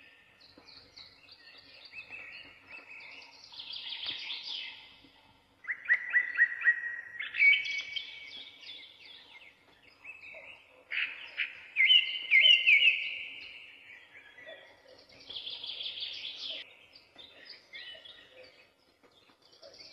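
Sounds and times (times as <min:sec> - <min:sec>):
songbirds chirping and trilling: 0:00.0 - 0:19.9.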